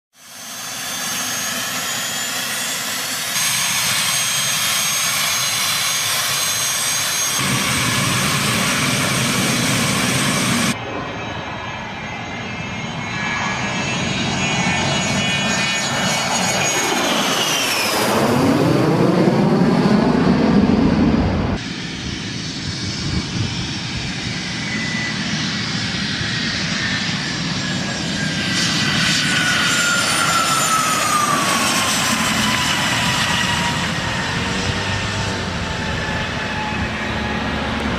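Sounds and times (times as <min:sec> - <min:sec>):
jet engine whine: 0:00.1 - 0:37.9
jet passing overhead: 0:00.2 - 0:37.9.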